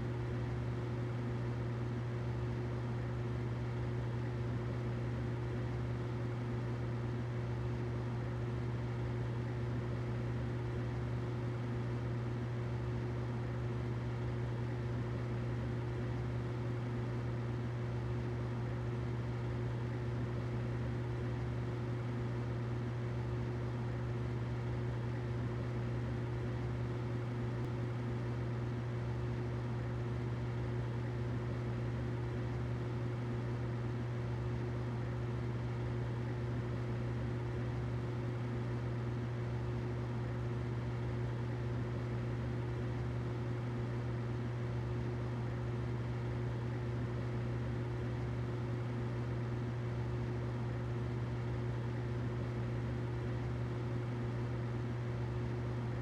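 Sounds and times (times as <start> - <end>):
humidifier humming: 0.0 - 56.0.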